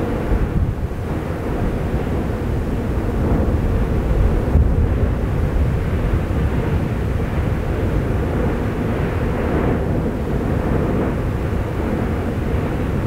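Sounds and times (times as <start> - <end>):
volcano rumbling: 0.0 - 13.0.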